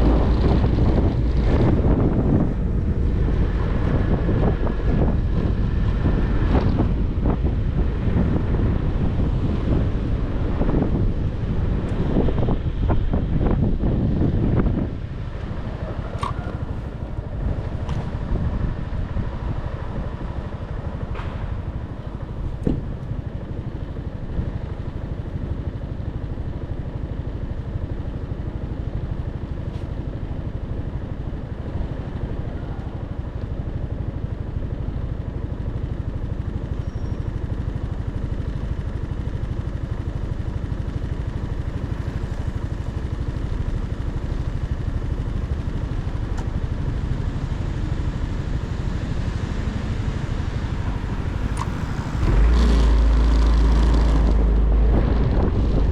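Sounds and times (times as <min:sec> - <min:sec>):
motorcycle engine running: 0:00.0 - 0:29.5, 0:30.2 - 0:55.9.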